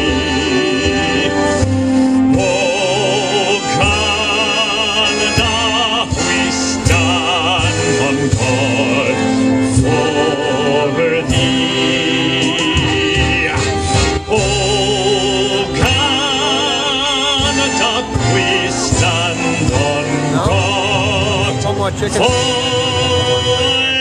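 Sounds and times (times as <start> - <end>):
man singing operatically: 0.0 - 24.0
musical accompaniment: 0.0 - 24.0.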